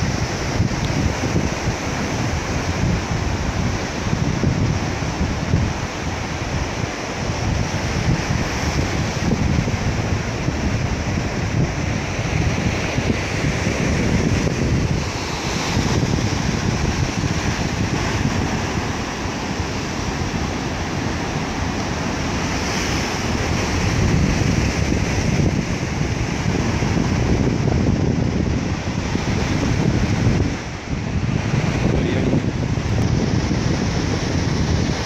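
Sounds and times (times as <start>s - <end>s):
surf breaking over rocks: 0.0s - 35.0s
wind buffeting microphone: 0.0s - 35.0s.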